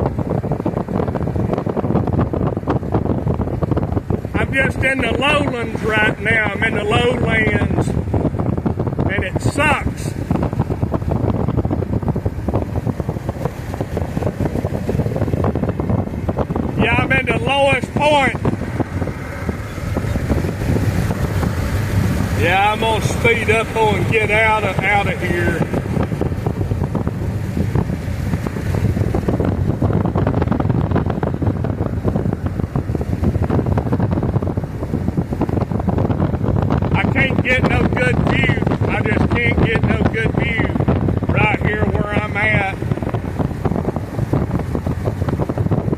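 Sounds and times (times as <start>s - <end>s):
moving vehicle rumble: 0.0s - 45.9s
wind buffeting microphone: 0.0s - 45.9s.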